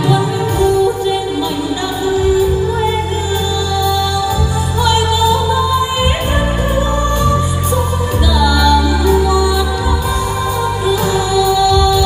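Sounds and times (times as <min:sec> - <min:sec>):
woman singing: 0:00.0 - 0:12.0.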